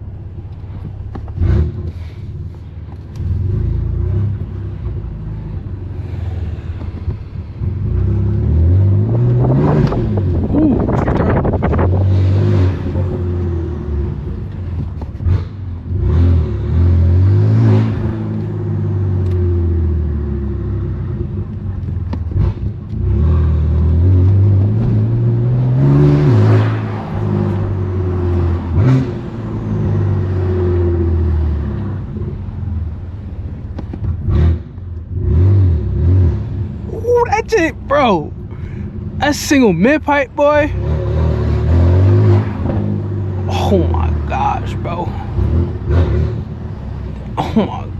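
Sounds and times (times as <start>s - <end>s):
car engine accelerating: 0.4s - 47.9s.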